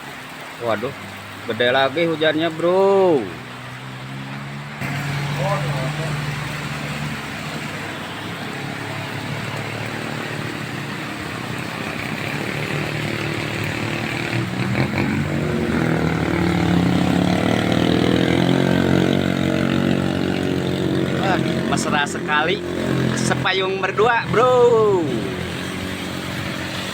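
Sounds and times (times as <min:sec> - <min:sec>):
heavy rain hissing on road: 0:00.0 - 0:26.9
vehicle engine climbing: 0:00.0 - 0:26.9.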